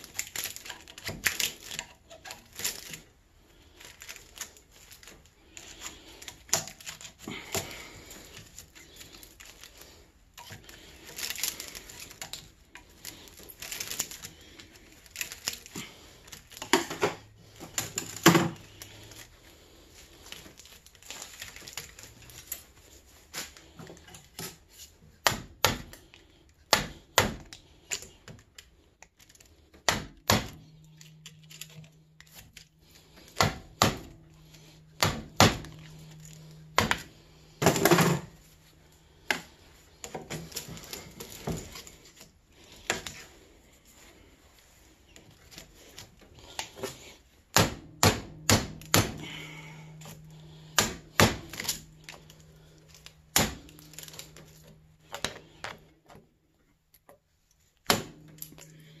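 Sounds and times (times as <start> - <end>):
scraping and handling noise: 0.0 - 25.3, 25.9 - 59.0.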